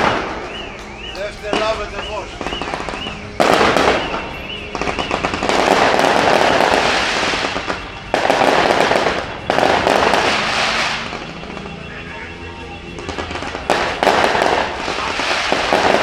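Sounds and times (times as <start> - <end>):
fireworks crackling: 0.0 - 16.0.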